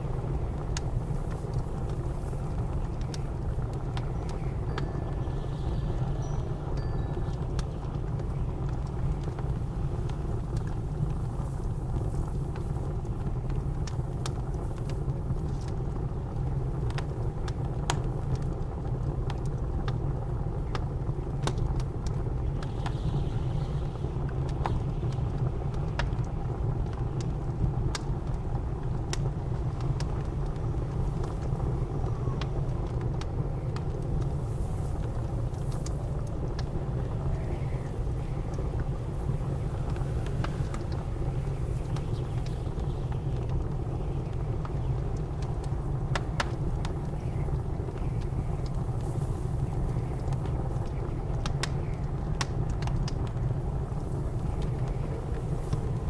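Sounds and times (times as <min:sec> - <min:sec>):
blizzard wind rumbling: 0:00.0 - 0:56.0
wood fire crackling: 0:00.0 - 0:56.0.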